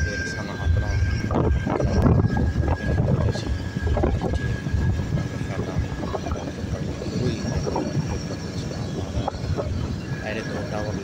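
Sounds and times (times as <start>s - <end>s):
engine and road rumble: 0.0s - 11.0s
wind buffeting microphone: 0.0s - 11.0s.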